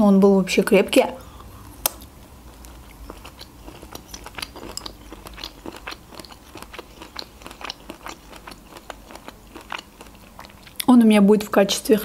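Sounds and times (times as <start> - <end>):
chewing with mouth clicks: 1.2 - 10.9.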